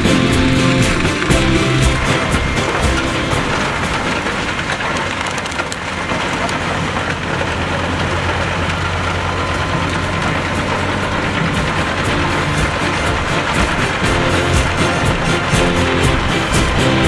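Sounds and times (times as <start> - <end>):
wood chipper chipping wood: 0.0 - 17.0.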